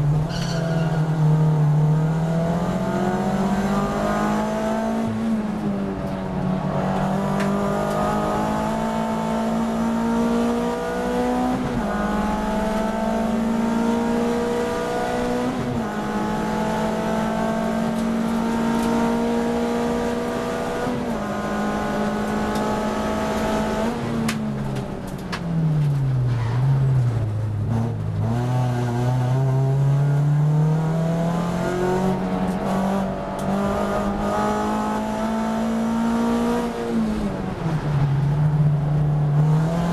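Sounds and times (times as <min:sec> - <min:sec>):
race car engine at full throttle: 0:00.0 - 0:39.9.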